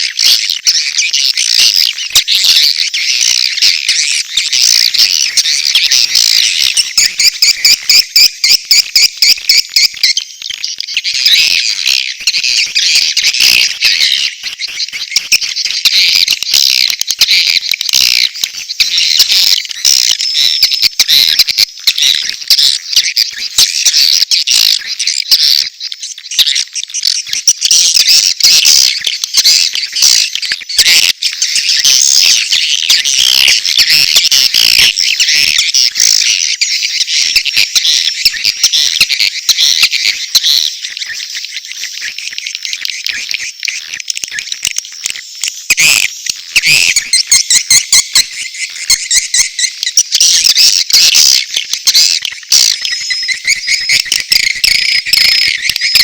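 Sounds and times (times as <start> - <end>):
rapid evenly spaced chirps: 0.0 - 56.0
swiftlets chattering and twittering: 0.0 - 56.0.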